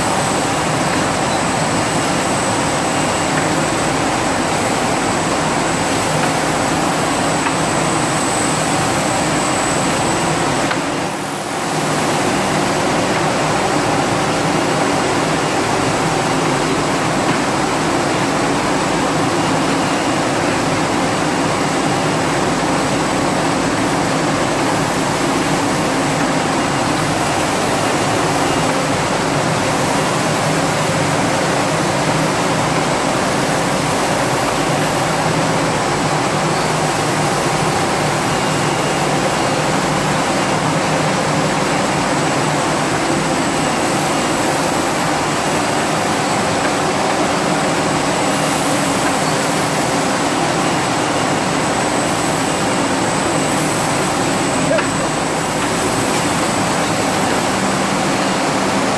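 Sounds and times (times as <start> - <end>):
machinery rushing hum: 0.0 - 58.9.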